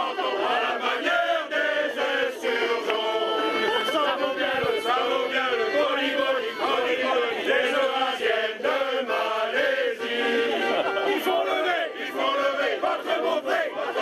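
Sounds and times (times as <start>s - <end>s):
male choir singing: 0.0s - 14.0s.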